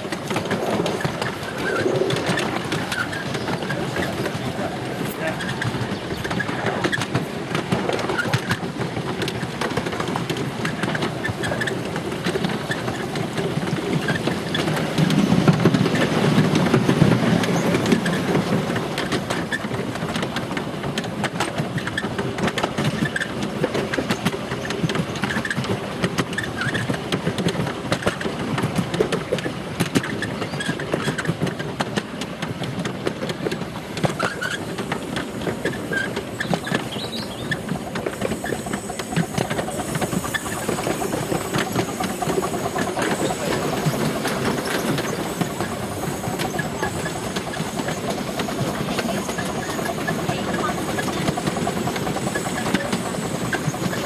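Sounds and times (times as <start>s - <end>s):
small train wheels rolling on track: 0.0s - 54.0s.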